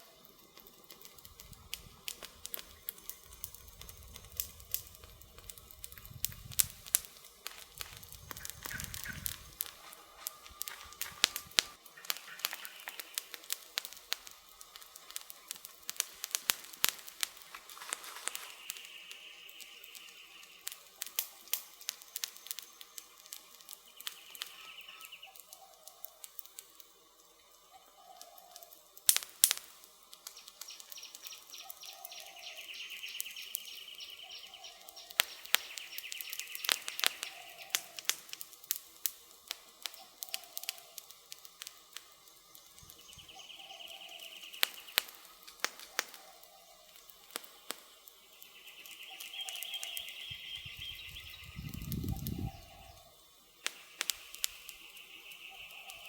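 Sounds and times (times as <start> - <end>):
loud snap of fire: 0.0 - 27.0, 28.2 - 56.0
campfire crackling and popping: 0.0 - 56.0
bird calls: 1.8 - 26.4, 27.5 - 28.8, 30.2 - 38.4, 39.5 - 41.7, 42.4 - 56.0.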